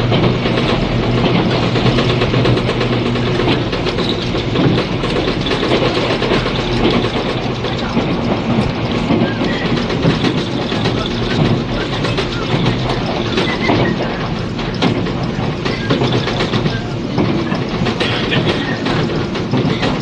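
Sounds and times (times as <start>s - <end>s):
rail joint clicks: 0.0s - 20.0s
train wheels rumbling on rail: 0.0s - 20.0s.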